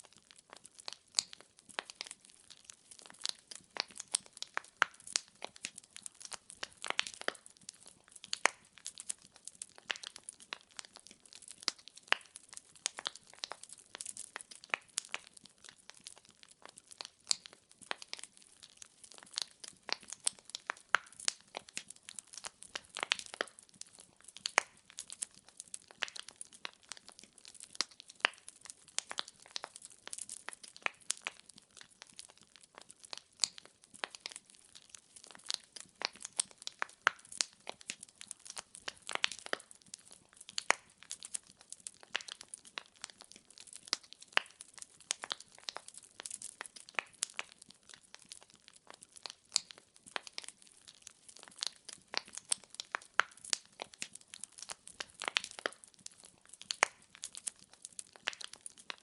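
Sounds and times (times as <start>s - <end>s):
fireplace logs crackling: 0.1s - 59.0s.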